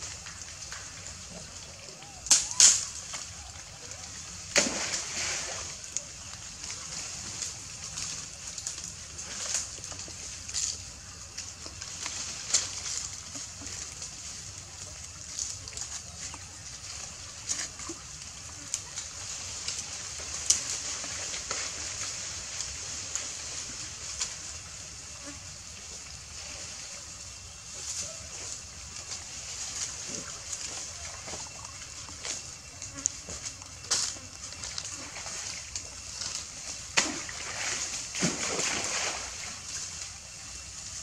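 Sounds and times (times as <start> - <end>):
small splashes in shallow water: 0.0 - 24.4, 25.7 - 41.0
steady high hiss: 0.0 - 41.0.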